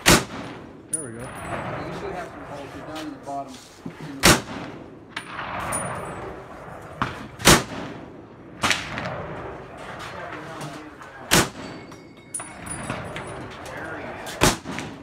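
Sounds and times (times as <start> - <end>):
rifle shots: 0.0 - 2.4, 4.2 - 11.8, 12.4 - 15.0.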